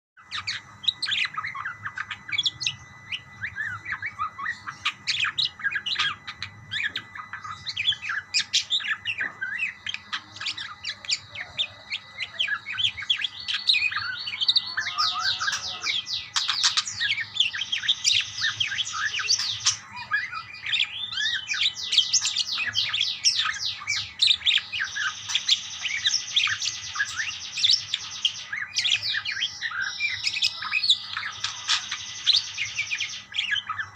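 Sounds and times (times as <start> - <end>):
budgerigars chirping: 0.2 - 33.9.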